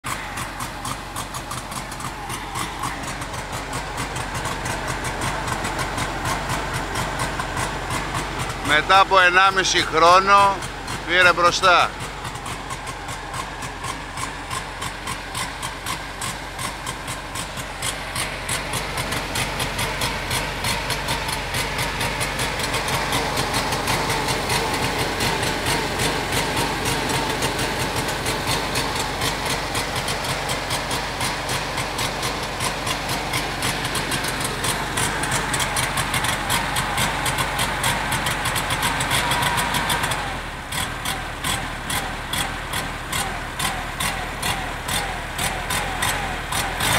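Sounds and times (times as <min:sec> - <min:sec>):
air-cooled engine idling: 0:00.0 - 0:46.9.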